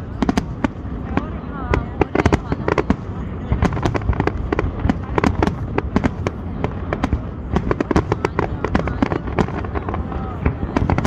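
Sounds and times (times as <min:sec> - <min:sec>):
fireworks bangs and crackling pops: 0:00.0 - 0:11.0
steady low rumble: 0:00.0 - 0:11.0.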